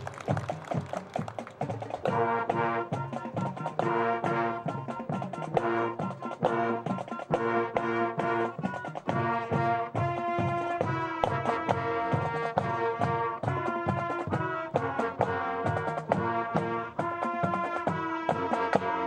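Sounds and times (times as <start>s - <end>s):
marching drums: 0.0s - 19.0s
brass chords: 1.9s - 19.0s.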